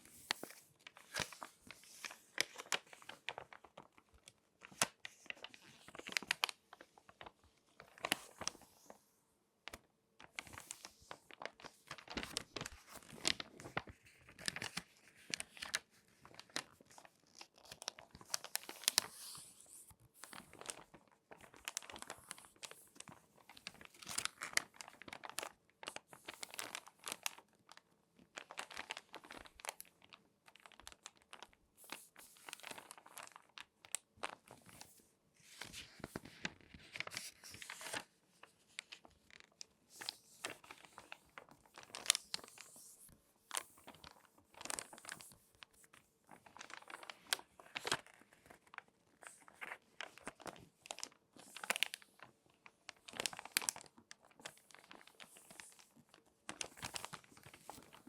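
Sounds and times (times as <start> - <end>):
magazine pages crinkling: 0.0 - 9.0, 9.7 - 58.0.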